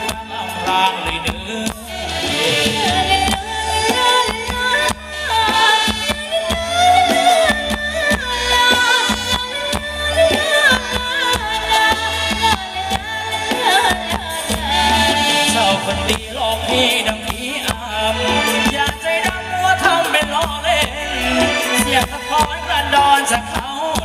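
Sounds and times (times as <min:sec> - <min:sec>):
horns: 0:00.0 - 0:23.9
live band playing dance music: 0:00.0 - 0:24.0
person singing: 0:00.0 - 0:24.0.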